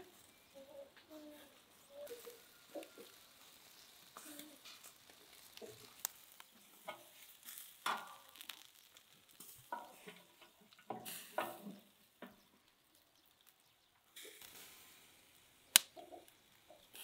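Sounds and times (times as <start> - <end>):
kebabs sizzling on grill: 0.0 - 17.0.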